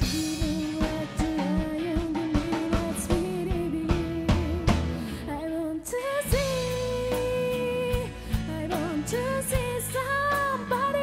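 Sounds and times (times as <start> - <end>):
drum beats: 0.0 - 5.3, 6.2 - 11.0
live rock band: 0.0 - 11.0
woman singing: 0.0 - 11.0.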